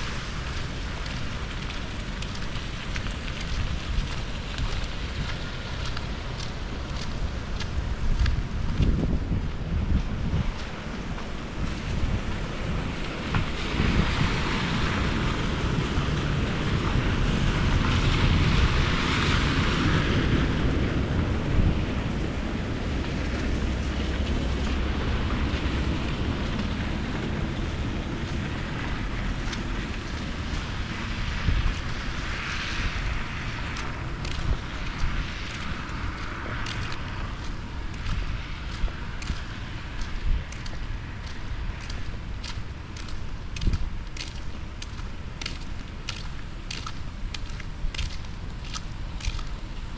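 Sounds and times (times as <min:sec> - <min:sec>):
rain: 0:00.0 - 0:49.9
traffic noise: 0:00.0 - 0:49.9
vehicles passing on wet road: 0:00.0 - 0:49.9
wind rumbling on microphone: 0:00.0 - 0:49.9.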